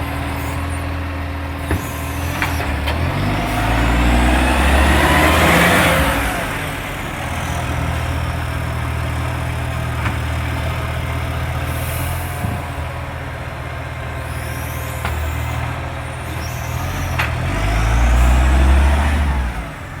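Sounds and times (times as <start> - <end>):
diesel engine with exhaust rasp: 0.0 - 20.0.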